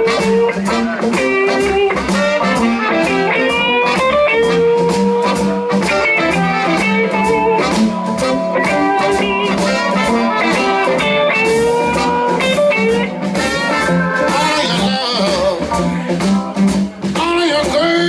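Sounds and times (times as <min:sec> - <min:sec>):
bass: 0:00.0 - 0:18.0
lead guitar with bending notes: 0:00.0 - 0:18.0
steady drum beat: 0:00.0 - 0:18.0.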